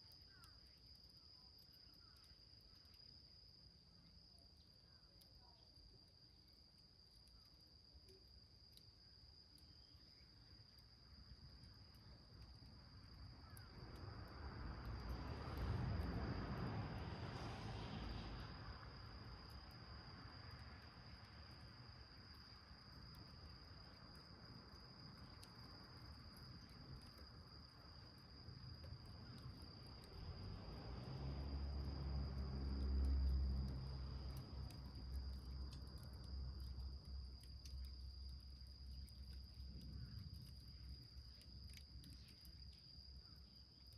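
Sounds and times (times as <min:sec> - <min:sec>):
insect trill: 0:00.0 - 0:43.9
small wood fire crackling: 0:00.0 - 0:43.9.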